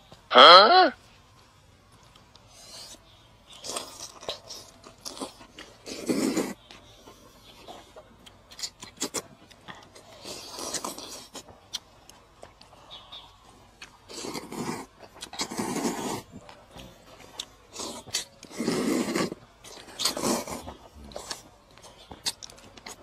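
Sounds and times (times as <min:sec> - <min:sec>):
person chewing crunchy food: 0:01.9 - 0:23.0.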